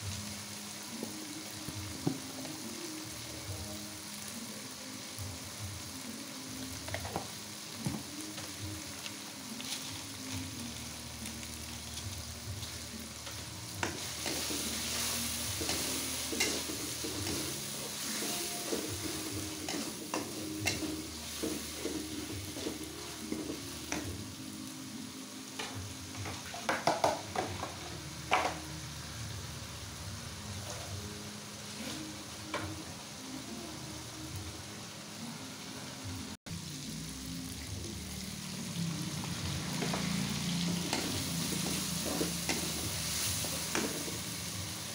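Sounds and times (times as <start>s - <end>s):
paste sizzling in oil: 0.0s - 28.2s, 36.5s - 44.9s.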